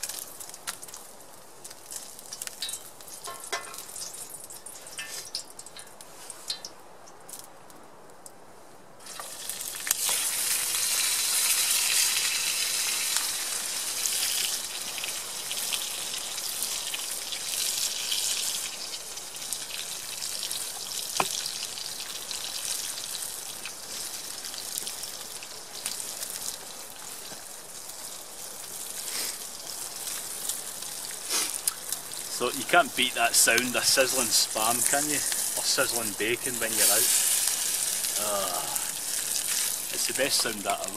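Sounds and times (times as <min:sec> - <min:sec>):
meat sizzling in a frying pan: 0:00.0 - 0:06.7, 0:09.0 - 0:40.9.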